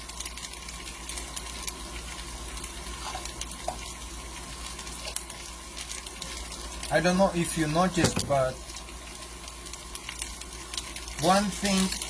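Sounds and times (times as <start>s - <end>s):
oil crackling and popping: 0.0s - 12.0s
potatoes sizzling in oil: 0.0s - 12.0s.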